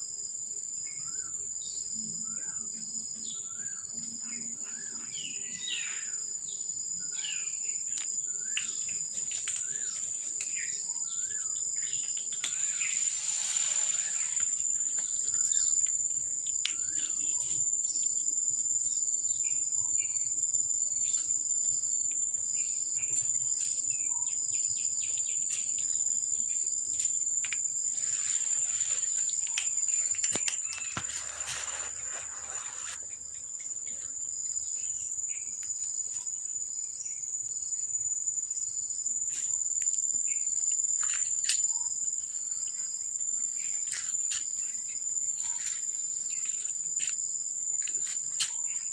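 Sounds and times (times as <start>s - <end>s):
insect chirps: 0.0s - 48.9s
insects droning: 0.0s - 48.9s.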